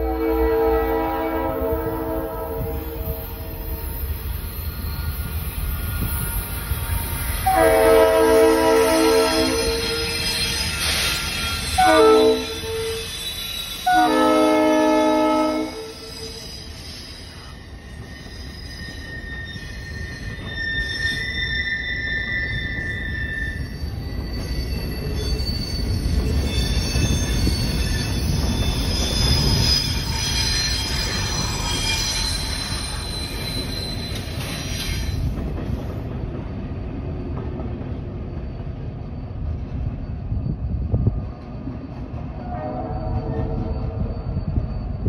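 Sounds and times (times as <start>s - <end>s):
freight train rumbling past: 0.0s - 45.0s
high-pitched wheel squeal: 0.1s - 35.4s, 42.3s - 45.0s.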